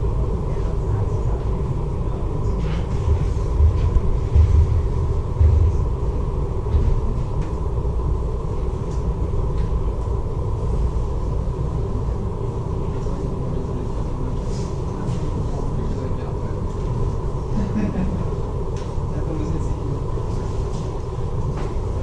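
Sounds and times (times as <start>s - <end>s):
faint steady hum: 0.0s - 22.0s
ferry engines rumbling: 0.0s - 22.0s.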